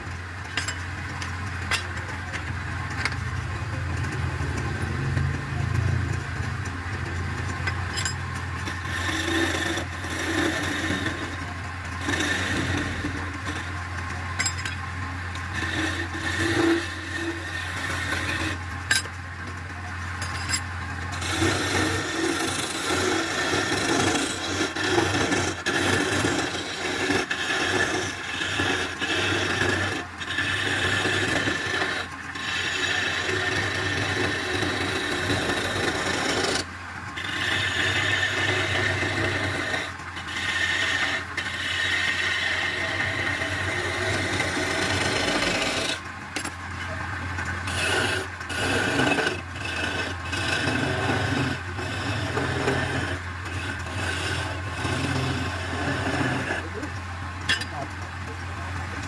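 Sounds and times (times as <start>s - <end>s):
chisel rasping on spinning wood: 0.0s - 19.6s, 20.2s - 57.8s
lathe motor hum: 0.0s - 59.0s.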